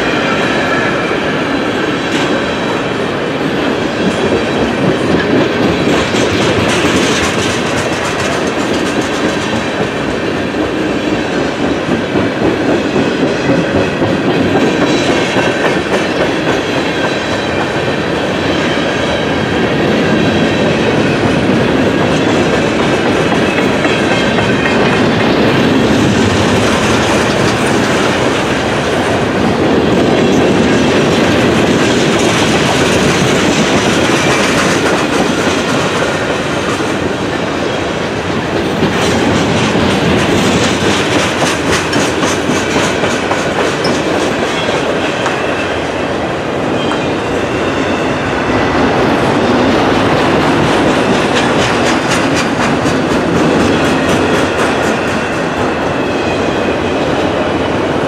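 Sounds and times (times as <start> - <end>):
freight train wheels rumbling: 0.0 - 58.0
wheels clickety-clack: 3.9 - 18.8, 19.7 - 37.4, 38.3 - 45.9, 49.0 - 55.8.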